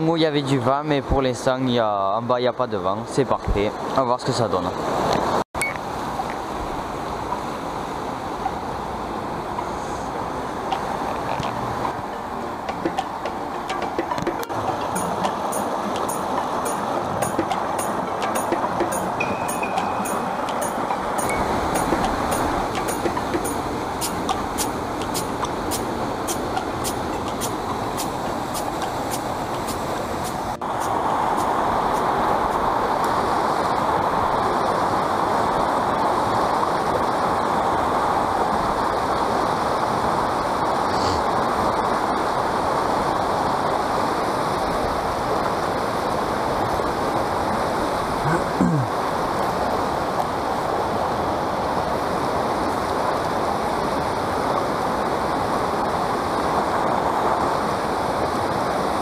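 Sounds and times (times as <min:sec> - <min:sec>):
river water rushing over rocks: 0:04.8 - 0:59.0.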